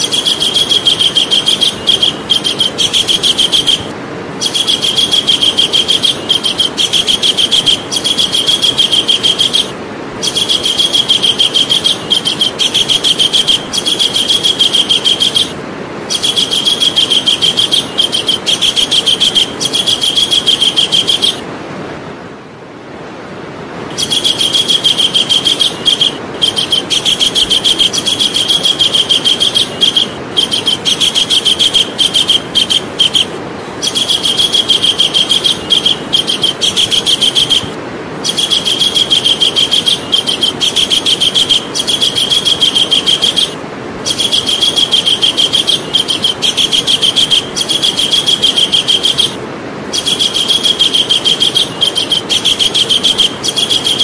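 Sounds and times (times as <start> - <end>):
kingfisher calling in rapid trills: 0.0 - 21.4, 23.9 - 54.0
steady background noise: 0.0 - 54.0.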